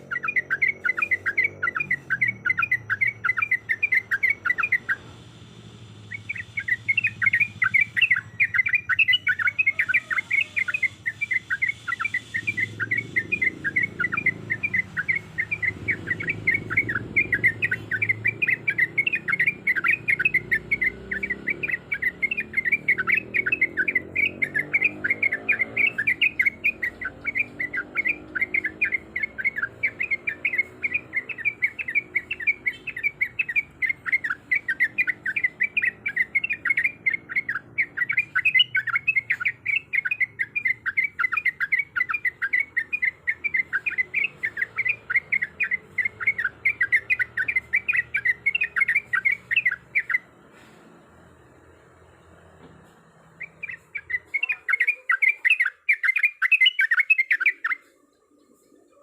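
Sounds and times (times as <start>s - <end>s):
bird chattering call: 0.0s - 5.2s, 6.0s - 50.3s, 53.4s - 59.0s.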